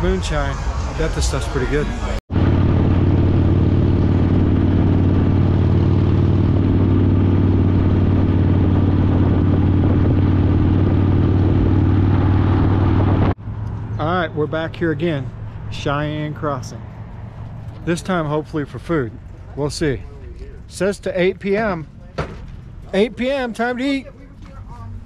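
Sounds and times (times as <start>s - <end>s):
motorcycle engine droning: 0.0s - 20.6s.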